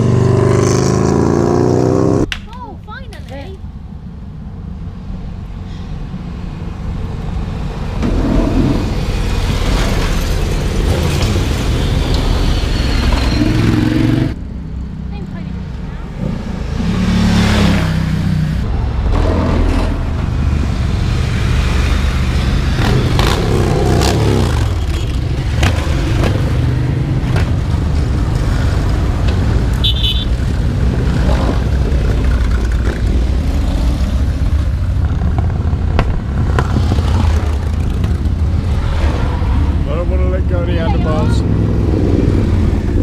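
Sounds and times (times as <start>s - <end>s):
motorcycle engines rumbling: 0.0s - 5.6s, 6.5s - 43.0s.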